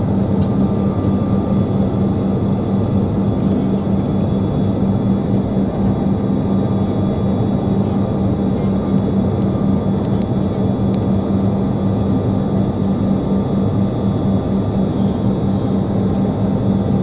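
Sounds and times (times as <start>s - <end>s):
aeroplane engine drone in cabin: 0.0s - 17.0s.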